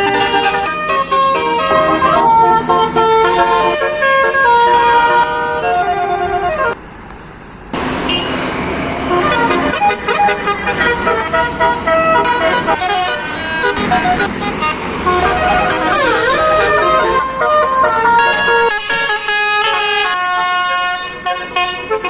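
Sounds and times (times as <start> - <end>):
multi-tone bus horn tune: 0.0 - 6.8, 7.8 - 22.0
road noise: 0.0 - 22.0.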